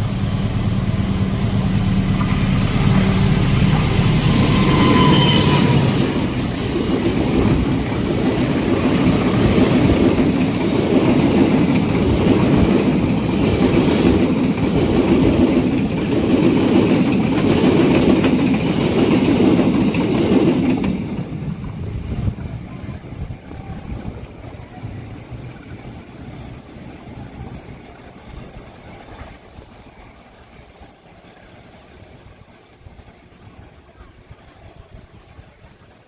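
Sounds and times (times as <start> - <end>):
train wheels clattering on rails: 0.0 - 36.0.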